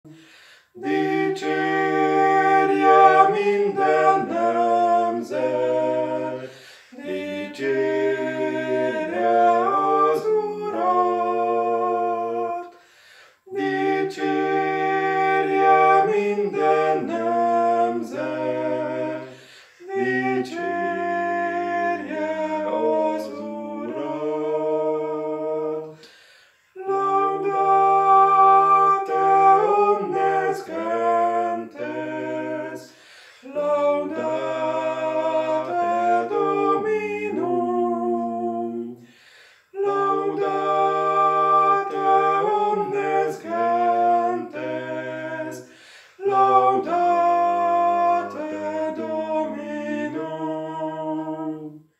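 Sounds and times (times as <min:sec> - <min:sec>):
man and woman singing chant: 0:00.1 - 0:51.9.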